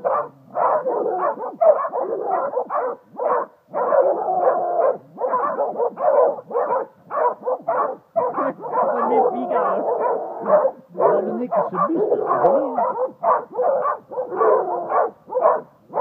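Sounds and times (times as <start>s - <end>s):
dogs barking and baying: 0.0s - 16.0s.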